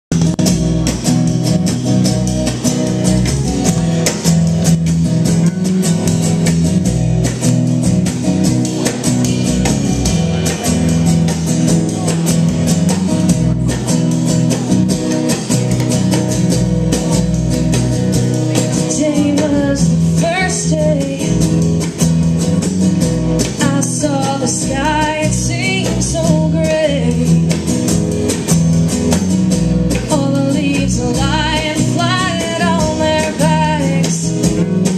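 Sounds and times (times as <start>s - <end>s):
guitar: 0.1s - 34.9s
steady bass line: 0.1s - 34.9s.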